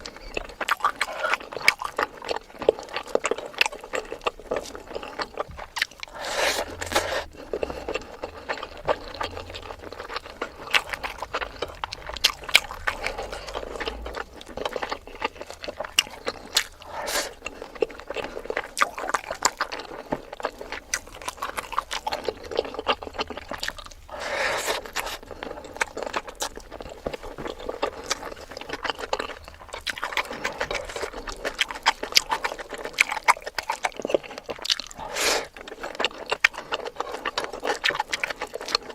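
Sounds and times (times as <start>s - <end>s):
chewing: 0.0s - 38.9s.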